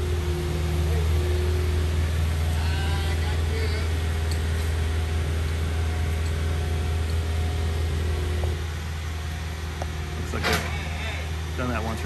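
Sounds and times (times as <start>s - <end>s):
engine deep continuous hum: 0.0s - 12.0s.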